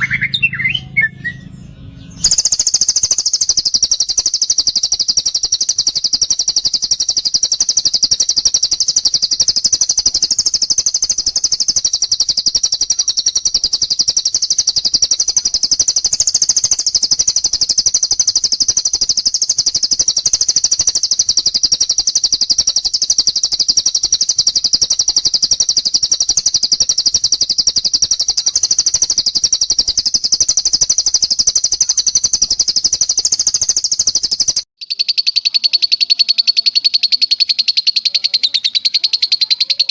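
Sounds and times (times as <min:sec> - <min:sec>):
songbird chattering trill: 0:00.0 - 0:39.9.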